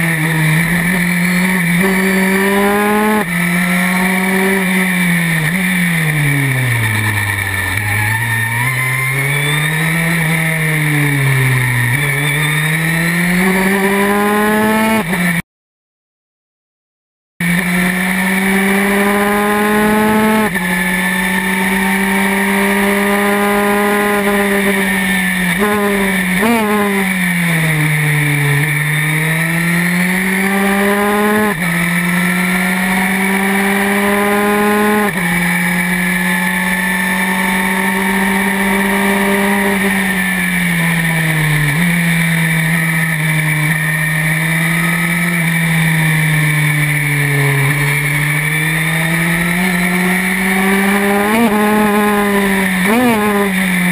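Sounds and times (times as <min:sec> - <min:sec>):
racing car engine revving through gears: 0:00.0 - 0:15.4, 0:17.4 - 0:53.9.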